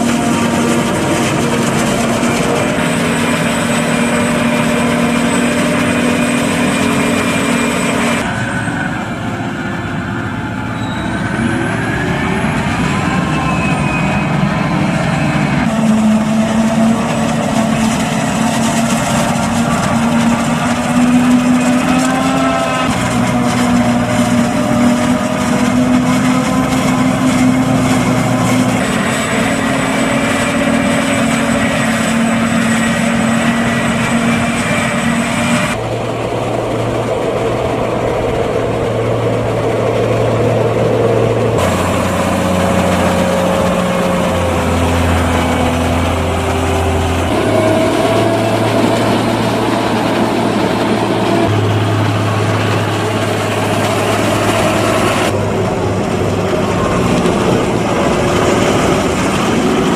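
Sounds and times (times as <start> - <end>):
diesel farm machinery running: 0.0 - 59.9.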